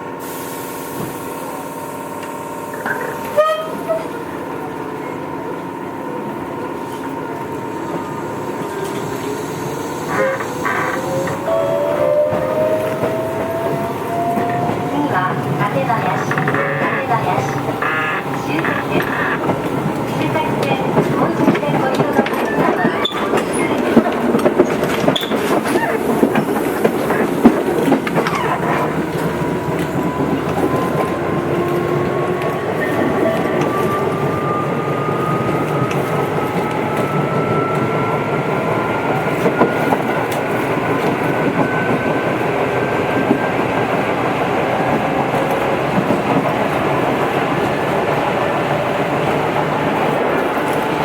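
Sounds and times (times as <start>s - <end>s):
wheels clattering on rail joints: 2.2s - 5.6s, 6.6s - 51.0s.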